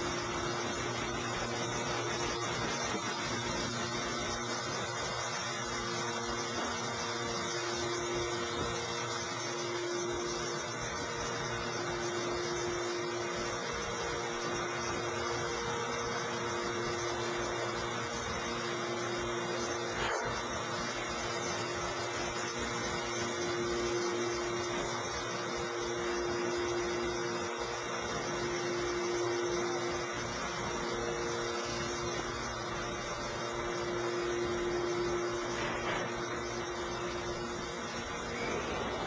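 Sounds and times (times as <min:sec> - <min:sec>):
machinery hum and hiss: 0:00.0 - 0:39.0.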